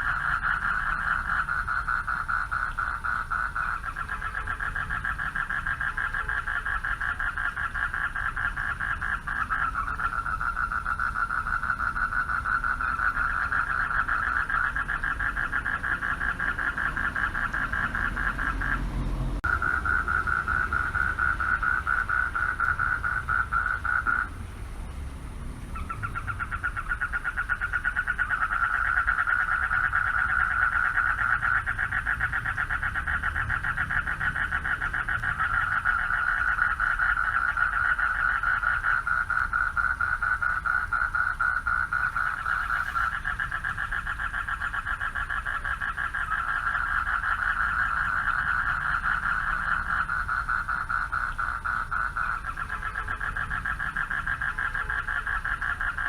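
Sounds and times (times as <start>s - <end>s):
chorus of frogs trilling: 0.0s - 24.6s, 25.2s - 56.0s.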